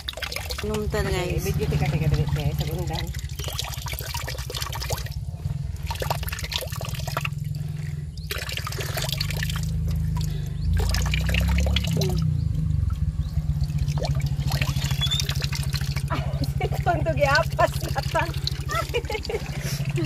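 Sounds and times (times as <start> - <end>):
low rumble: 0.0 - 20.0
water trickling and splashing: 0.0 - 20.0.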